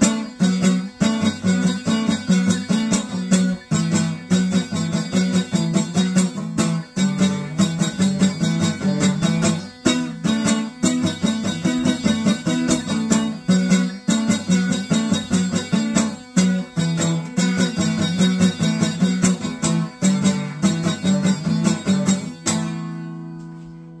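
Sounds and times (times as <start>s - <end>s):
plucked string instrument music: 0.0s - 24.0s.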